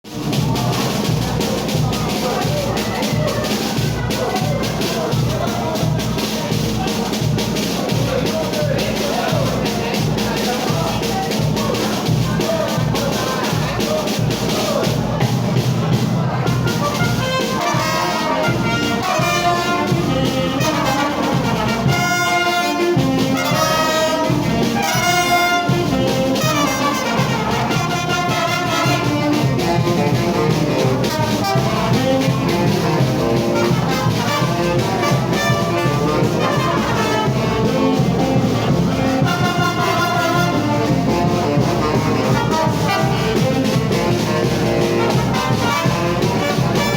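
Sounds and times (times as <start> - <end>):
brass orchestra playing: 0.1 - 46.9.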